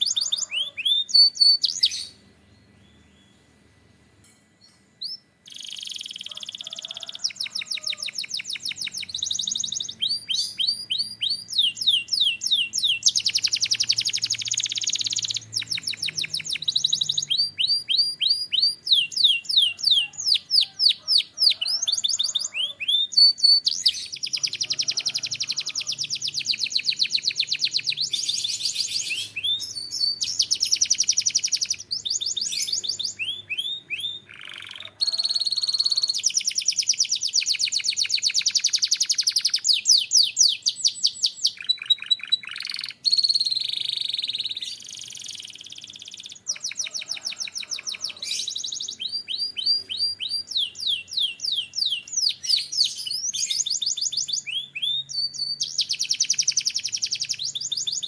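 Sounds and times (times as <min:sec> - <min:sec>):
canary singing: 0:00.0 - 0:03.6, 0:04.6 - 0:58.0.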